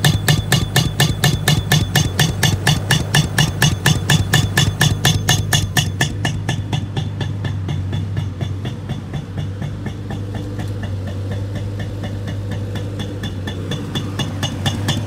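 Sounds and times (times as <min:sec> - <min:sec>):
pneumatic tool hammering rapidly: 0:00.0 - 0:15.0.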